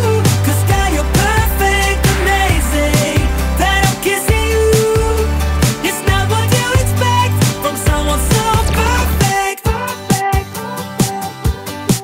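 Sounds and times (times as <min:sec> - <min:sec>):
pop music with deep bass: 0:00.0 - 0:12.0.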